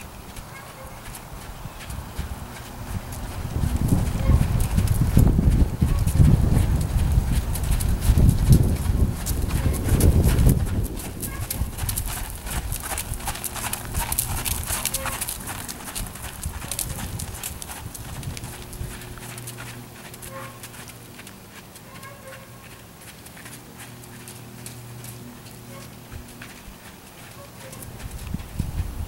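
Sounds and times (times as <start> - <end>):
horse hoofbeats trotting: 0.0 - 29.0.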